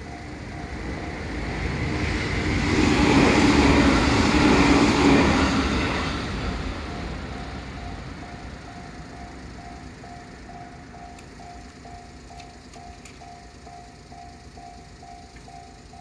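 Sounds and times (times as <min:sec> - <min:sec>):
crossing alarm dinging: 0:00.0 - 0:16.0
train rumble: 0:00.0 - 0:16.0.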